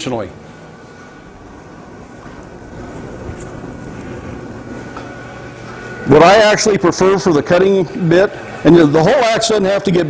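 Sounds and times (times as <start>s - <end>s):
machinery rumbling: 0.0s - 10.0s.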